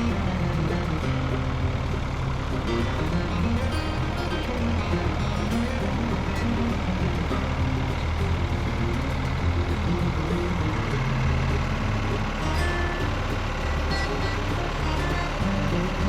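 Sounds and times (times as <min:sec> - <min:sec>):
background music: 0:00.0 - 0:16.0
engine running: 0:00.0 - 0:16.0.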